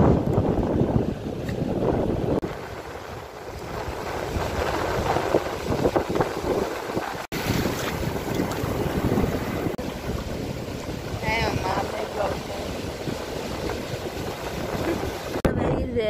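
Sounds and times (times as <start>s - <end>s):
wind buffeting microphone: 0.0s - 16.0s
small waves breaking on beach: 1.1s - 15.4s.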